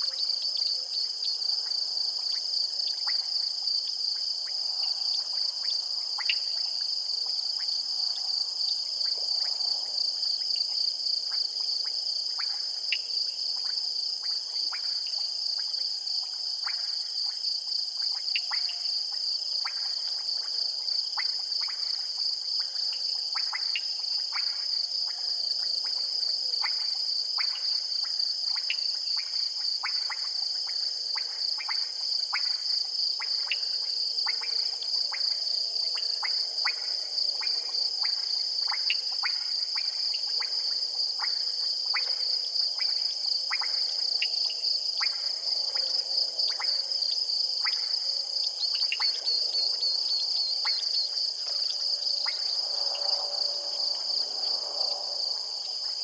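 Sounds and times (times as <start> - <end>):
crickets trilling: 0.0 - 56.0
frogs calling in clicks: 0.0 - 56.0.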